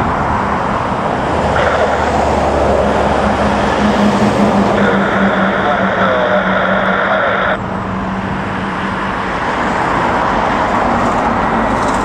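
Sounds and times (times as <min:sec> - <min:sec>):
distant jet engine roar: 0:00.0 - 0:12.0.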